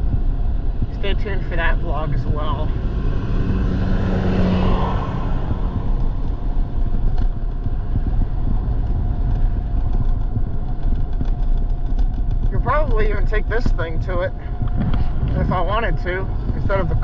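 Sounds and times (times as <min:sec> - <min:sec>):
road noise: 0:00.0 - 0:17.0
vehicle passing: 0:00.0 - 0:17.0
wind rumbling on microphone: 0:00.0 - 0:17.0.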